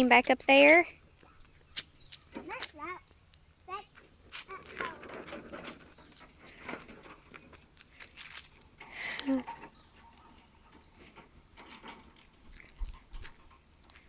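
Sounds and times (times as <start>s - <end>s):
footsteps on asphalt: 0.0s - 14.0s.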